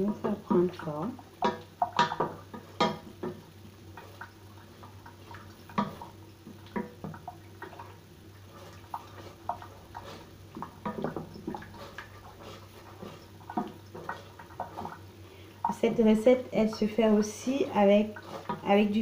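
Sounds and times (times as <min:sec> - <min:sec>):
syrup simmering with clicks and pops: 0:00.1 - 0:19.0.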